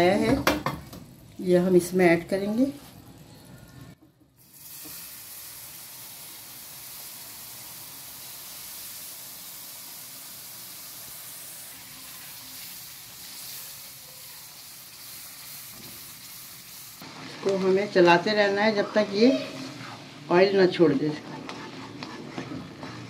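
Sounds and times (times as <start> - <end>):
syrup sizzling in hot fat: 4.4 - 23.0.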